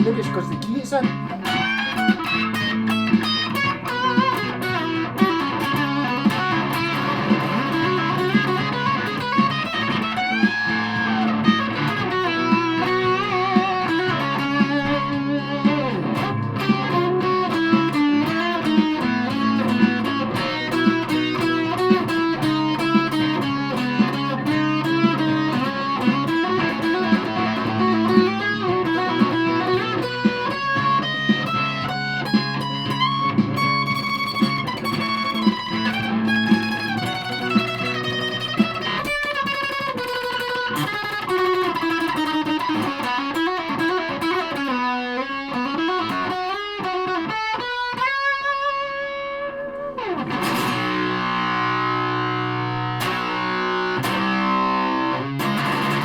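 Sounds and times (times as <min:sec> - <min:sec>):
distorted electric guitar riff: 0:00.0 - 0:56.0.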